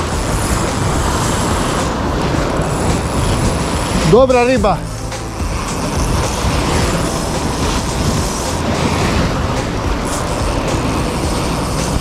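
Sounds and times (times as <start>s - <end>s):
sea surf breaking: 0.0s - 12.0s
wind rushing: 0.0s - 12.0s.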